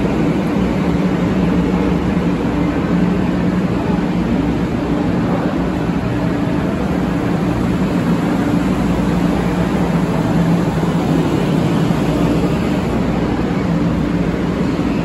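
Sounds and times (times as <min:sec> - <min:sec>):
train humming at platform: 0:00.0 - 0:15.0.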